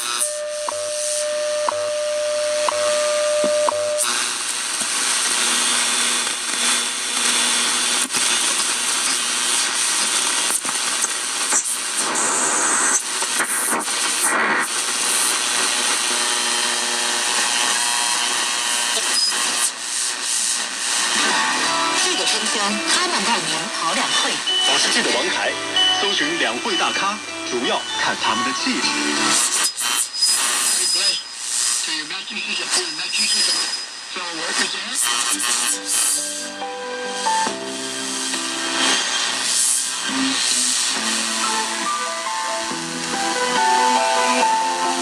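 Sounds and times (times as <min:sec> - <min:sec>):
radio static hiss and crackles: 0:00.0 - 0:01.9, 0:02.5 - 0:45.0.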